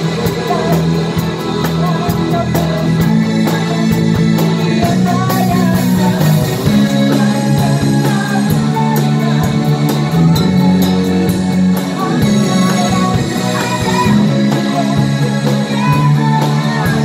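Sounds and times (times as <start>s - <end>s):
drum kit: 0.0s - 17.0s
electric guitar: 0.0s - 17.0s
woman singing rock song: 0.0s - 17.0s.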